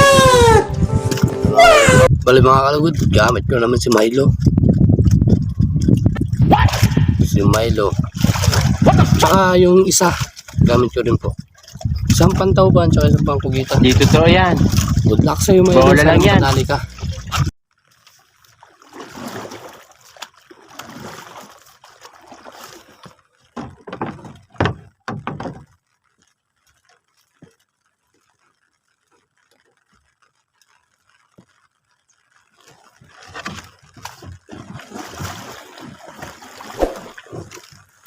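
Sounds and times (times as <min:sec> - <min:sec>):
water sloshing around boat: 0:02.8 - 0:28.2, 0:29.4 - 0:38.0.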